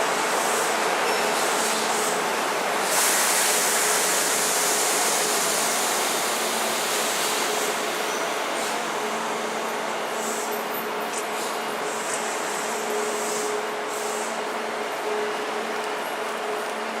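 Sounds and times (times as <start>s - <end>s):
electric train wheels rushing: 0.0s - 16.7s.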